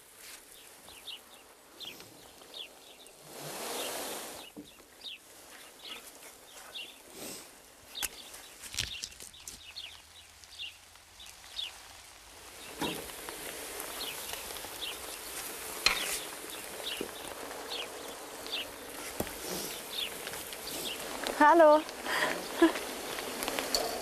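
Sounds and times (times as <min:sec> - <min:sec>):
birds chirping: 0:00.0 - 0:24.0
hiss: 0:01.8 - 0:08.3, 0:10.6 - 0:24.0.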